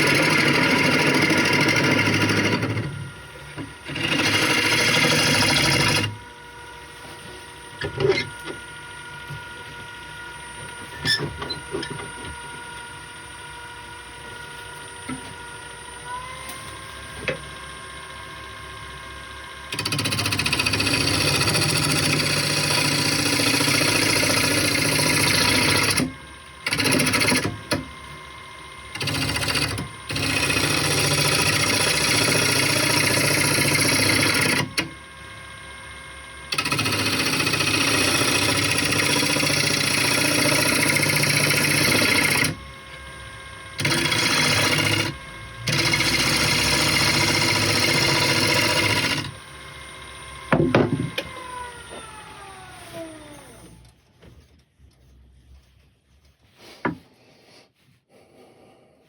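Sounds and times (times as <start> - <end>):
motor winding down whine: 0.0 - 54.0
power tool cutting wood: 0.0 - 54.0.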